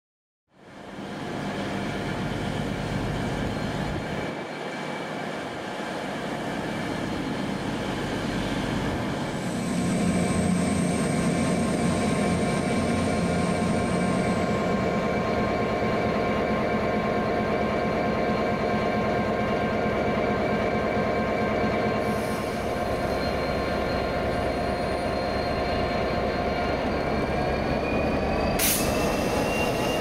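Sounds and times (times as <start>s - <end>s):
train rumbling: 0.6s - 30.0s.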